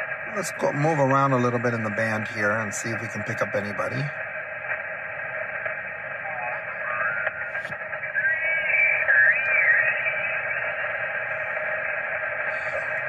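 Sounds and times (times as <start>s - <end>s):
radio static hiss: 0.0s - 13.0s
warbling radio whistles: 0.0s - 13.0s.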